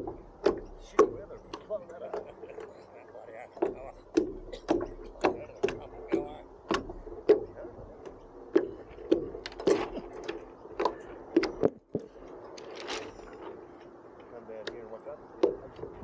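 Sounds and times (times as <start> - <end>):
small waves slapping a hull: 0.0 - 16.0.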